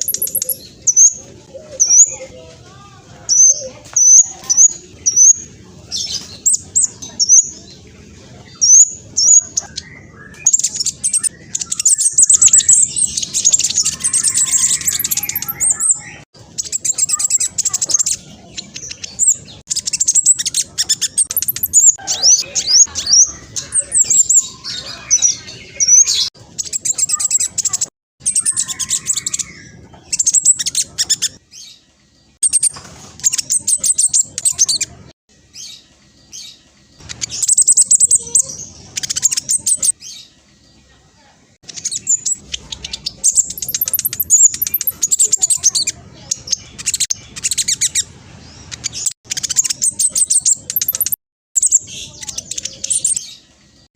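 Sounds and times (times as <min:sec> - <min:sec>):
bird singing rapid trills: 0:00.0 - 0:02.3, 0:03.3 - 0:40.3, 0:41.7 - 0:53.9.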